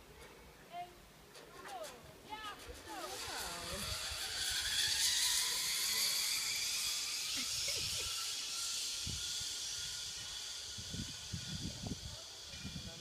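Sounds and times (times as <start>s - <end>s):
descender line whirring hiss: 2.4s - 13.0s.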